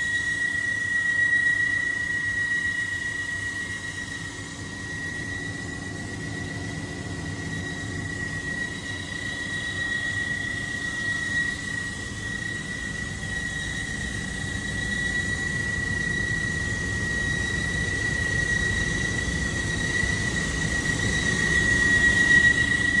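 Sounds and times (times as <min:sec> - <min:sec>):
exhaust fan running with whine: 0:00.0 - 0:23.0.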